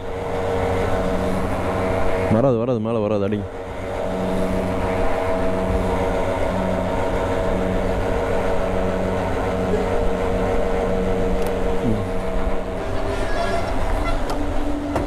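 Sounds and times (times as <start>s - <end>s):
fuel pump humming: 0.0s - 15.0s.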